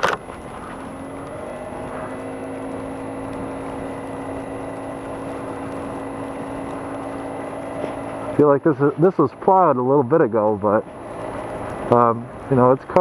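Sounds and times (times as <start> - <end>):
scooter engine under throttle: 0.0 - 13.0.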